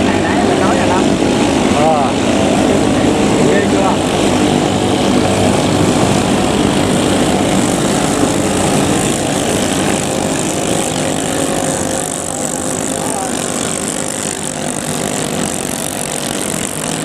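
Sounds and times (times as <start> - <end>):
boat engines droning: 0.0 - 17.0.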